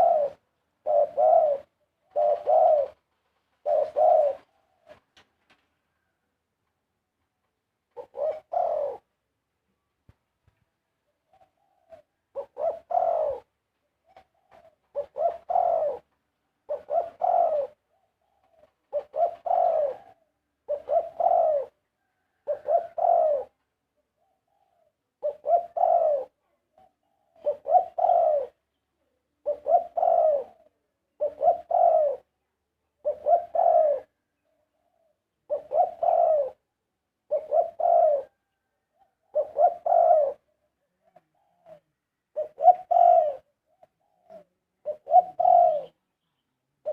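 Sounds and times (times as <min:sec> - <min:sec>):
dove cooing: 0:00.0 - 0:05.2, 0:07.9 - 0:09.2, 0:11.1 - 0:46.0.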